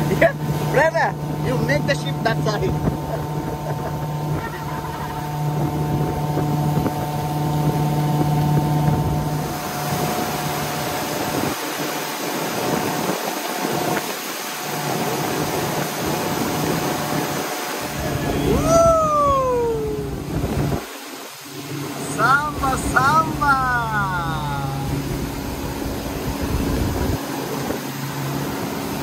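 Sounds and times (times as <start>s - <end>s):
motorboat engine running: 0.0s - 29.0s
water rushing along hull: 0.0s - 29.0s
wind and water rushing: 0.0s - 29.0s.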